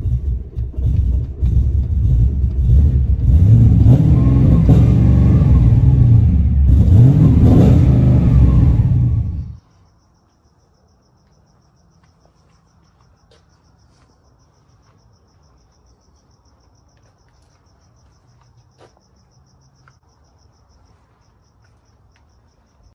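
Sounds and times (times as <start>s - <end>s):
crickets chirping: 0.0s - 22.9s.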